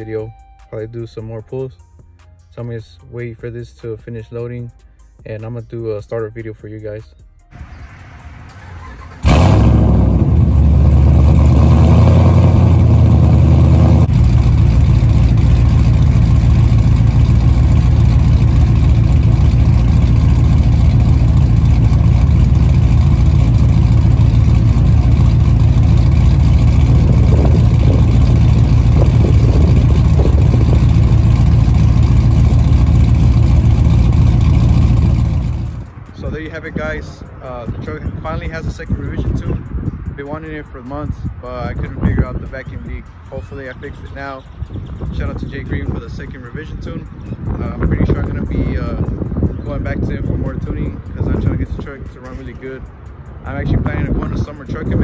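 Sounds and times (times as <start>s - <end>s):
car engine starting and idling: 7.3s - 38.8s, 41.7s - 55.0s.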